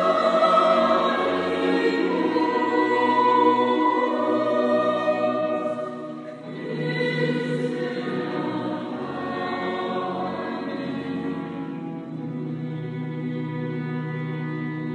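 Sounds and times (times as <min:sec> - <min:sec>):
mixed choir singing in harmony: 0:00.0 - 0:14.9.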